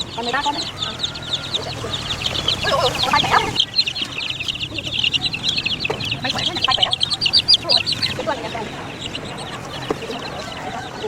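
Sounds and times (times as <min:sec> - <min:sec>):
chicken squawks: 0:00.0 - 0:11.0
chickens cheeping: 0:00.0 - 0:11.0.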